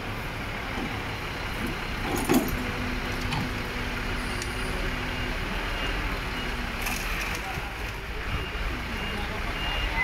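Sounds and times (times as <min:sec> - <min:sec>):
heavy vehicle engines running: 0:00.0 - 0:10.0.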